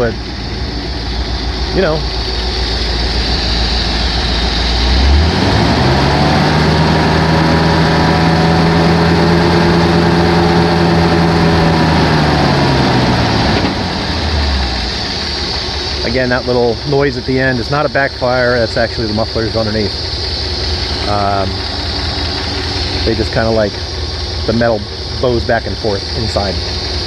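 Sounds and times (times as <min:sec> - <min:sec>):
car engine idling and revving: 0:00.0 - 0:27.0
muffler metal noise: 0:00.0 - 0:27.0.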